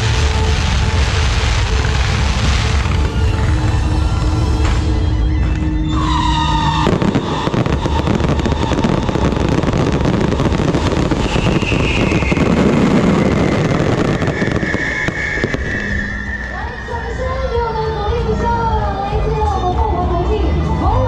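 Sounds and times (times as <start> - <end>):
fireworks crackling: 0.0 - 17.6.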